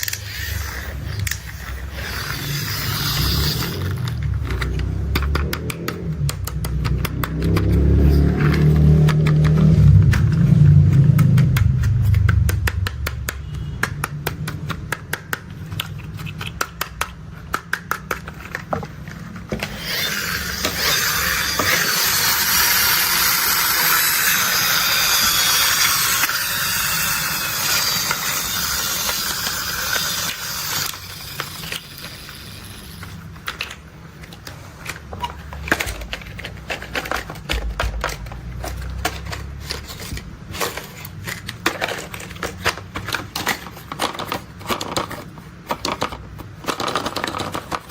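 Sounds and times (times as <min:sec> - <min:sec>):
plastic toys clicking and tapping: 0:00.0 - 0:47.9.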